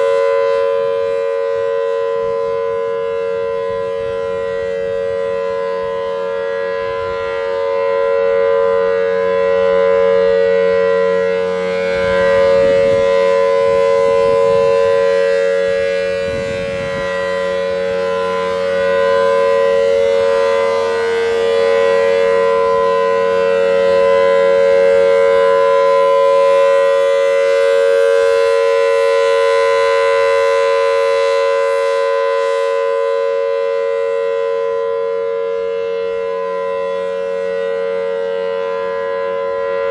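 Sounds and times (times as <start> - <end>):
steady civil defense siren tone: 0.0 - 39.9.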